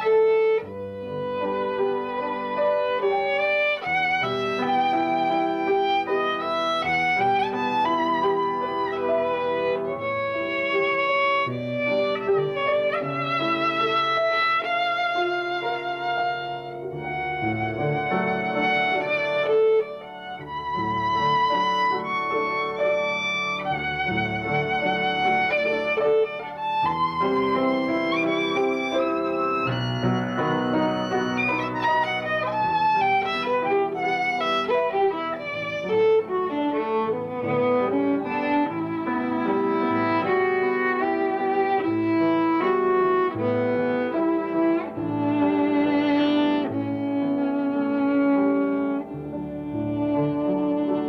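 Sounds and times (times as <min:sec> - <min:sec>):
bowed violin melody: 0:00.0 - 0:51.0.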